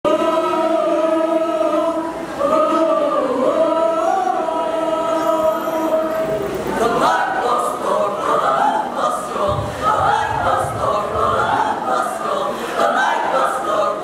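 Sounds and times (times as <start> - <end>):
youth choir singing: 0.0 - 14.0.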